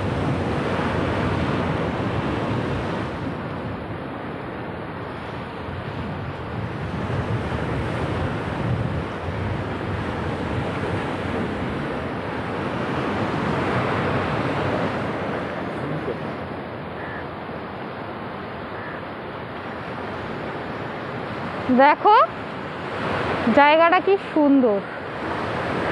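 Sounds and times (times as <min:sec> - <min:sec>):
rough sea surf breaking: 0:00.0 - 0:25.9
wind buffeting microphone: 0:00.0 - 0:25.9.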